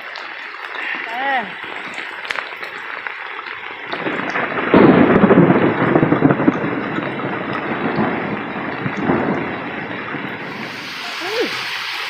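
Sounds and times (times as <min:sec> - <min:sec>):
rain: 0:00.0 - 0:12.0
thunder rumble: 0:00.9 - 0:12.0.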